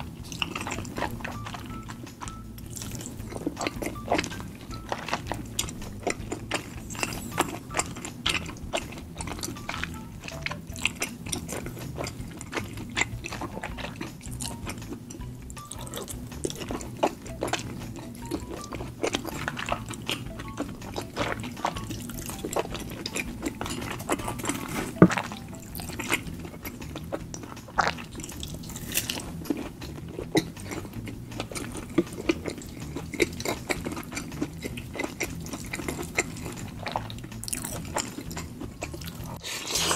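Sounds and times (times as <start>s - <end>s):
background music: 0.0s - 39.9s
wet chewing and lip-smacking: 0.0s - 39.9s.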